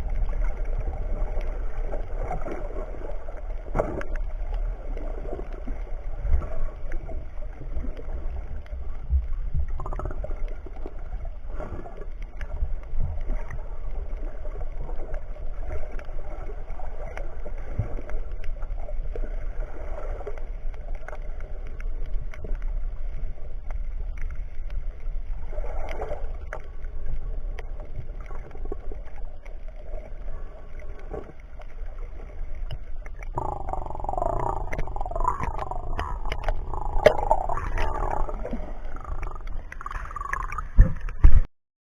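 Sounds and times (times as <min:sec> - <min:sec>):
low rumble: 0:00.0 - 0:41.5
water gurgling: 0:00.0 - 0:41.5.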